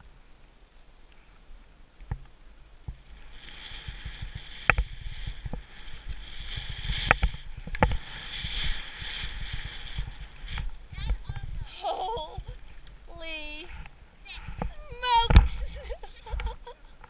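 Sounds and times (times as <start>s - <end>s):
low microphone rumble: 2.8s - 17.0s
skis sliding over snow: 2.8s - 17.0s.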